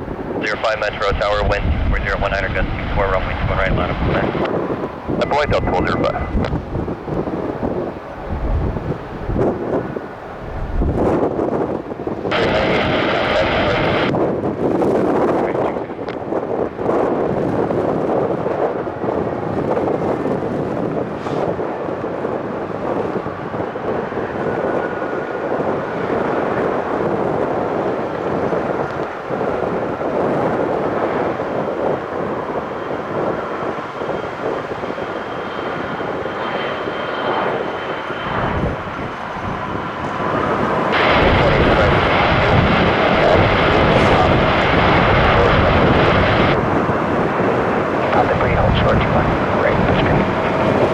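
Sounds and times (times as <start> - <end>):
jet engines rushing and whining: 0.0 - 50.9
wind buffeting microphone: 0.0 - 50.9.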